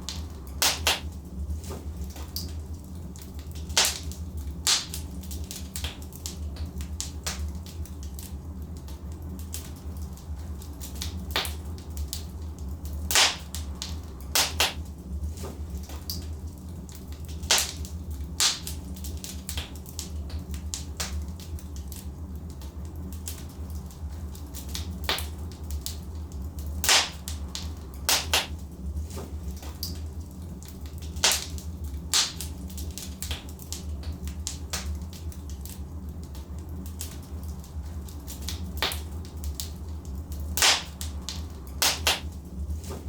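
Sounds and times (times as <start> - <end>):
fire crackling and popping: 0.0 - 43.0
low rumble of fire: 0.0 - 43.0.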